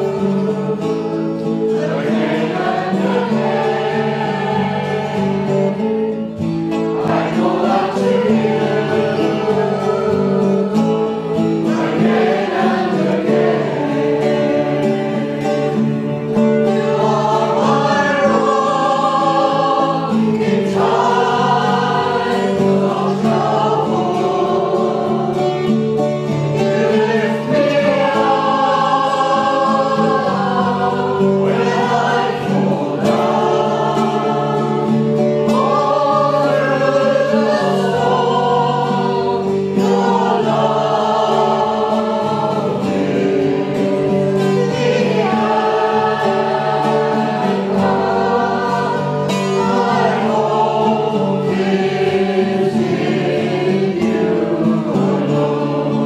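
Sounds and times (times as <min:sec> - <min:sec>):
group singing worship song: 0:00.0 - 0:56.0
strummed acoustic guitars: 0:00.0 - 0:56.0.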